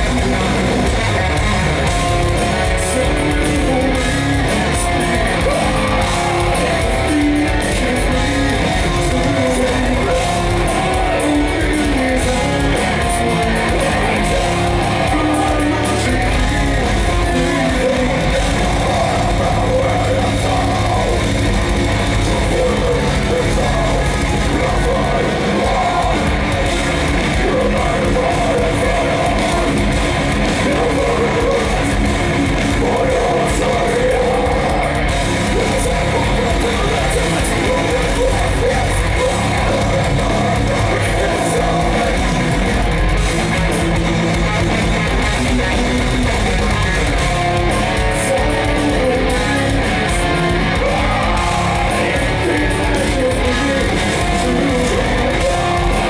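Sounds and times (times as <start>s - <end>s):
bass guitar: 0.0s - 56.0s
distorted electric guitars: 0.0s - 56.0s
drums: 0.0s - 56.0s
person singing: 0.0s - 56.0s.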